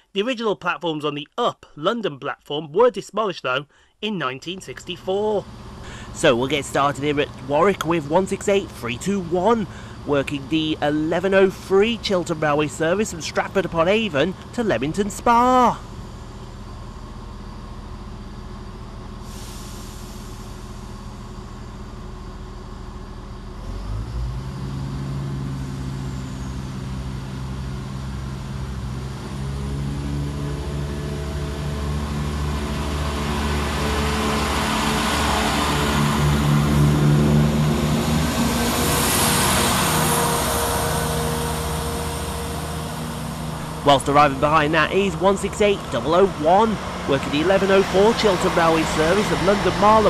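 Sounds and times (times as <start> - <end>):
train diesel engines running: 3.7 - 50.0.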